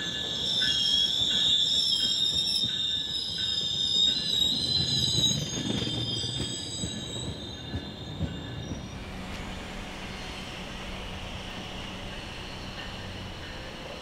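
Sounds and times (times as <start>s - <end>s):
train rumble: 0.0s - 14.0s
train wheels squealing: 0.0s - 14.0s.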